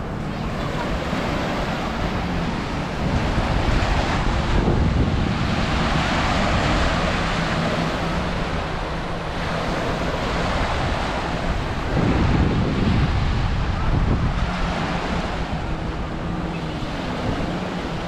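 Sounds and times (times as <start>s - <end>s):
waves breaking on beach: 0.0s - 18.0s
wind rumbling on microphone: 0.0s - 18.0s.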